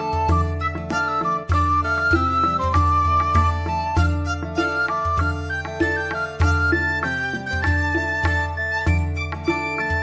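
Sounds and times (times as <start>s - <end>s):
flute-like melody: 0.0s - 10.0s.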